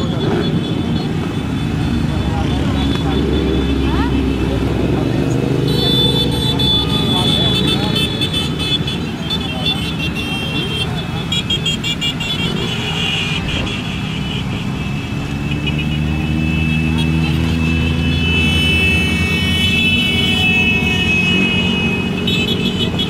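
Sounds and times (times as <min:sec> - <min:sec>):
motorcycles riding past: 0:00.0 - 0:23.0.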